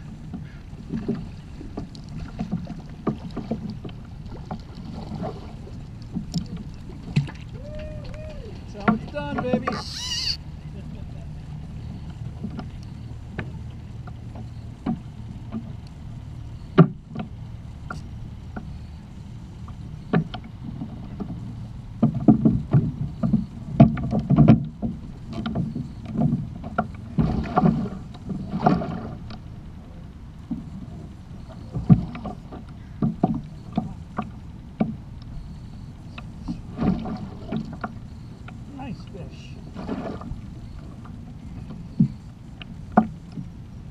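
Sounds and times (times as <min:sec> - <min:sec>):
water lapping against kayak hull: 0:00.0 - 0:43.9.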